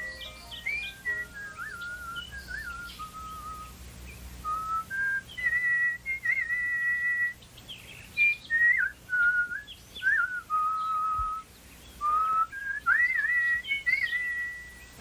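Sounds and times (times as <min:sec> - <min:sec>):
person whistling birdsong-like melody: 0:00.0 - 0:03.8, 0:04.4 - 0:15.0.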